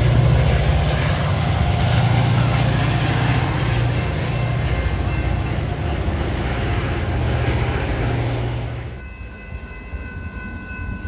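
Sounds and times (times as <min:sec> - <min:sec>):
train rumbling past: 0:00.0 - 0:11.0
wheels clattering on rails: 0:00.0 - 0:11.0.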